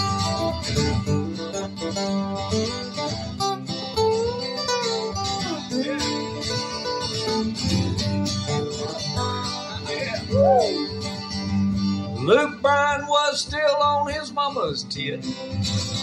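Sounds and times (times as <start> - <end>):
picked guitar lead with bends: 0.0 - 16.0
strummed acoustic guitar chords: 0.0 - 16.0.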